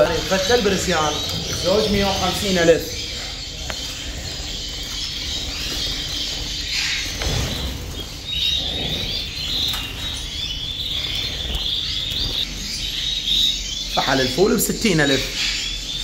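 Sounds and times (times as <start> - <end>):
canaries chirping and twittering: 0.0 - 16.0.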